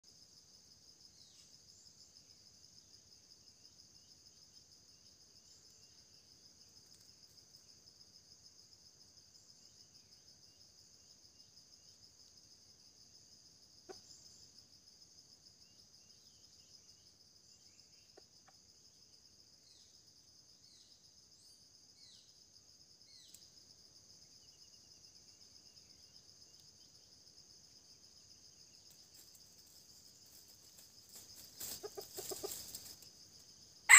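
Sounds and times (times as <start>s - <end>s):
insect chorus trilling: 0.1s - 33.9s.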